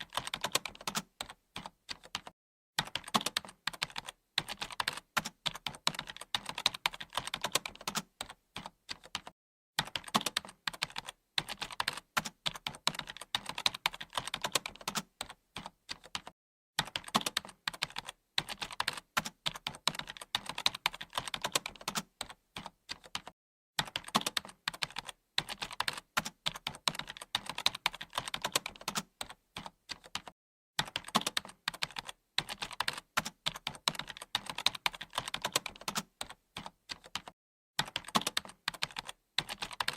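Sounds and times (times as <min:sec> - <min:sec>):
typing on keyboard: 0:00.0 - 0:39.9.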